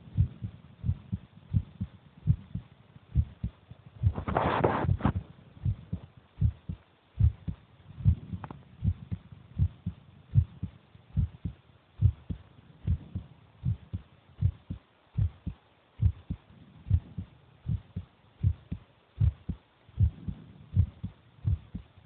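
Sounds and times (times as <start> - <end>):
faint hiss: 0.0 - 22.0
heartbeat thumps: 0.0 - 22.0.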